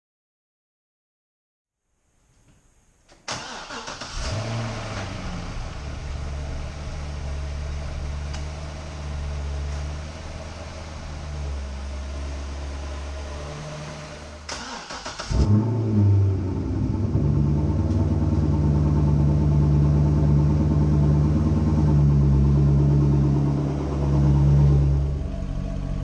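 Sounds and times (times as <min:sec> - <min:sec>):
car engine starting and idling: 0:03.2 - 0:26.0.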